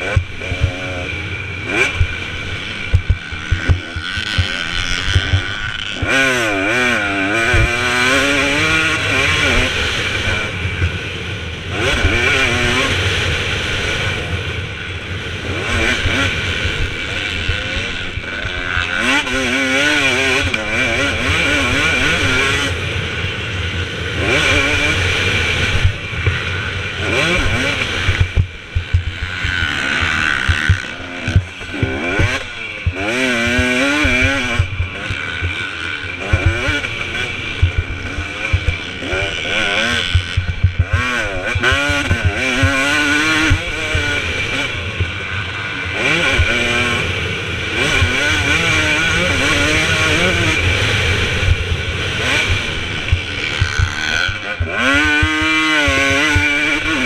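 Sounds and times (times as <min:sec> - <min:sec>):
motocross engine racing: 0:00.0 - 0:57.0.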